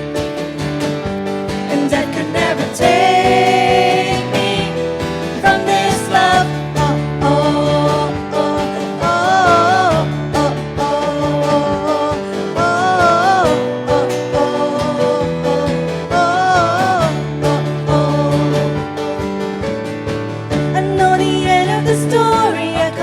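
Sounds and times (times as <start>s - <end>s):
guitar: 0.0s - 23.0s
worship band music: 0.0s - 23.0s.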